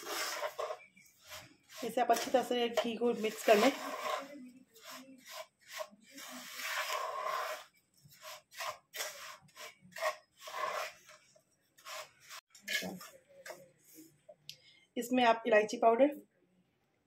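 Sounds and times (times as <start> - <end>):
wooden spatula scraping a pot: 0.0 - 14.1.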